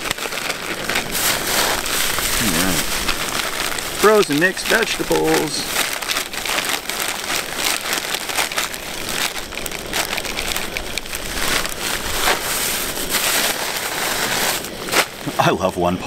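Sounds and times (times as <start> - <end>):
frozen vegetables falling into skillet: 0.0 - 15.3
plastic bag crinkling: 0.0 - 15.5
plastic bag scrunched by hand: 0.0 - 15.5.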